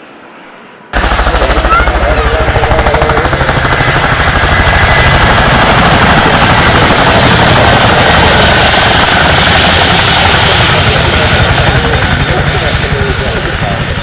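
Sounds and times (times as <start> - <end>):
helicopter rotor chopping: 0.9 - 14.0.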